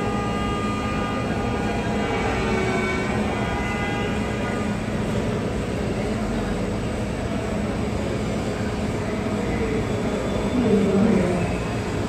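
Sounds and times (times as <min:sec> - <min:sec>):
aircraft engines droning: 0:00.0 - 0:12.0
high-pitched whine: 0:00.0 - 0:12.0.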